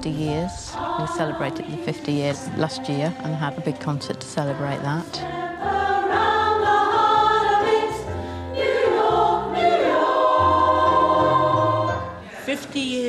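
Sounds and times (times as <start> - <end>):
women's choir singing: 0.0 - 12.6.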